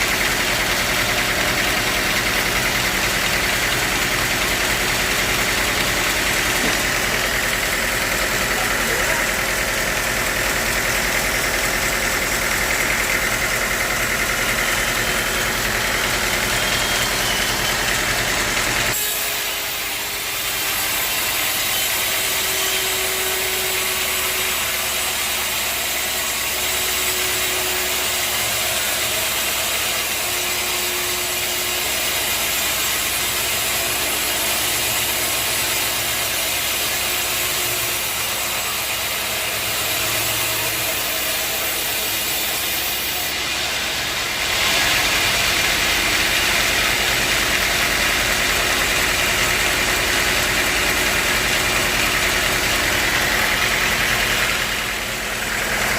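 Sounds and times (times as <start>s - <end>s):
sawmill machinery droning: 0.0s - 55.9s.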